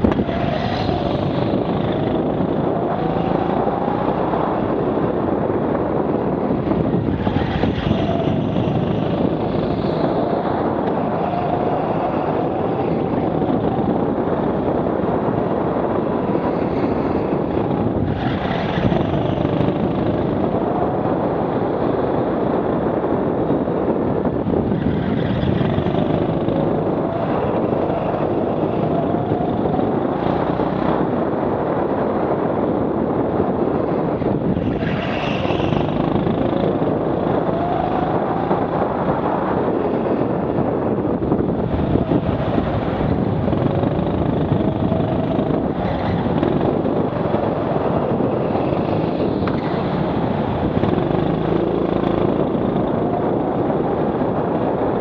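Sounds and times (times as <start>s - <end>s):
go-kart engine running: 0.0s - 55.0s
steady rushing noise: 0.0s - 55.0s.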